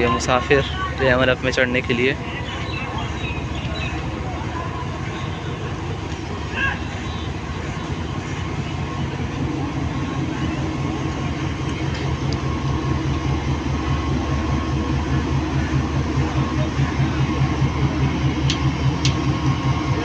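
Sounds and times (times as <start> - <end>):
locomotive engine throbbing: 0.0 - 20.0.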